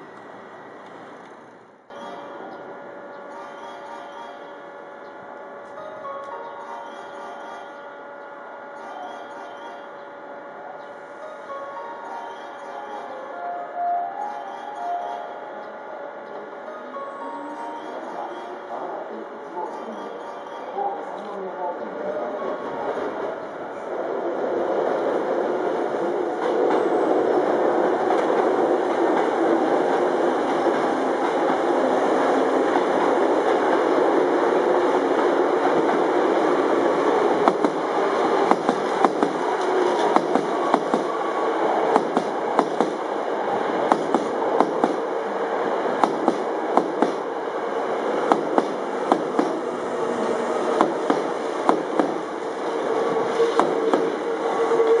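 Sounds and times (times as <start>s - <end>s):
electric train passing slowly: 0.0s - 55.0s.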